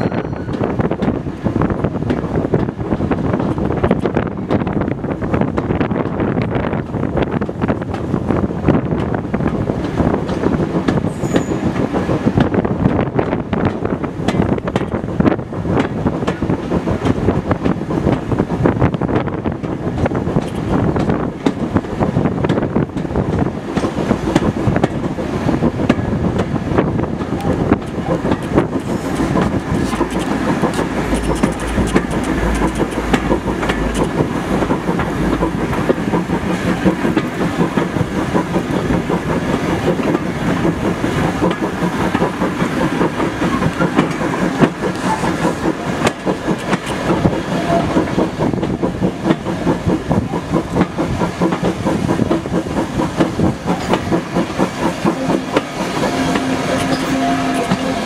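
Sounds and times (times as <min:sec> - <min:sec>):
train carriage rumble: 0:00.0 - 0:58.0
wheels clicking over track: 0:08.8 - 0:58.0.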